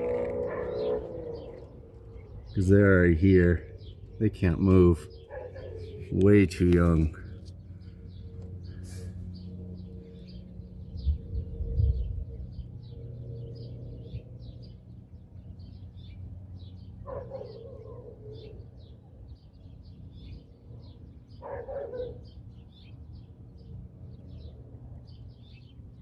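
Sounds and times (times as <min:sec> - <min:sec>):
lower bird calls: 0:00.0 - 0:26.0.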